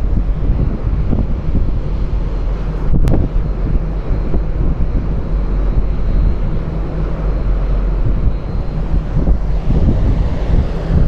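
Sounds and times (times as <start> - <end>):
ferry engines droning: 0.0 - 11.0
wind buffeting microphone: 0.0 - 11.0.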